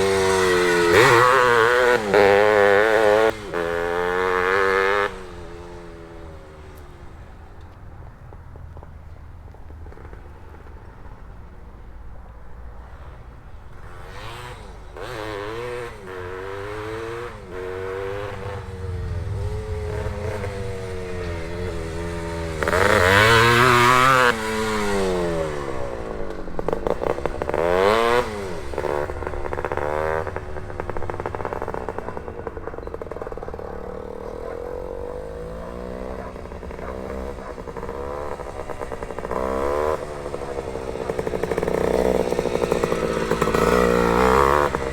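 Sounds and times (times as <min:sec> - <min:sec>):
two-stroke motorcycle engine revving: 0:00.0 - 0:07.4, 0:13.7 - 0:44.9.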